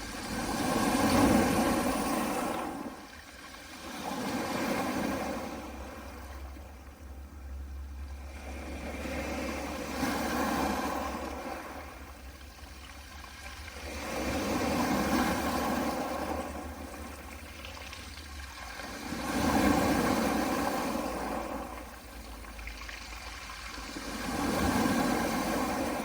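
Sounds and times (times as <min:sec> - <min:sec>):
small waves on pebble beach: 0:00.0 - 0:06.7, 0:08.2 - 0:26.0.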